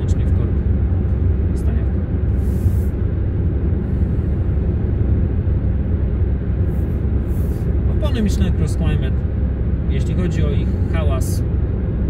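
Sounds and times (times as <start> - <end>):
road and tyre noise in car cabin: 0.0 - 12.0.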